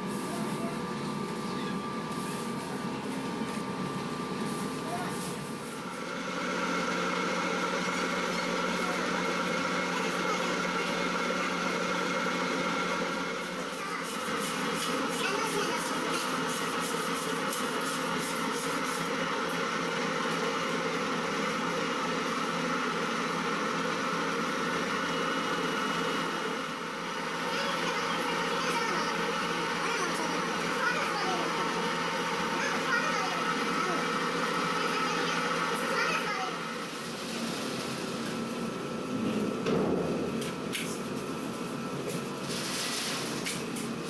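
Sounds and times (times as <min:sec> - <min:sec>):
dough mixer humming: 0:00.0 - 0:44.0.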